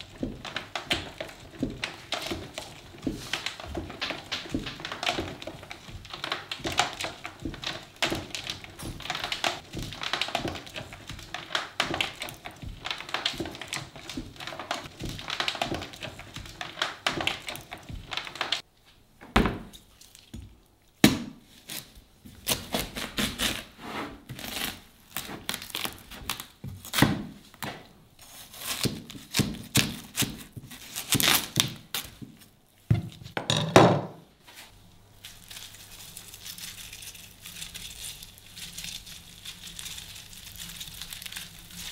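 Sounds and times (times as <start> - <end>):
patter of small crackles: 0.0 - 18.7, 24.4 - 32.5, 34.5 - 41.9
watermelon flesh crackling: 0.0 - 18.7, 19.8 - 32.8, 34.6 - 41.9.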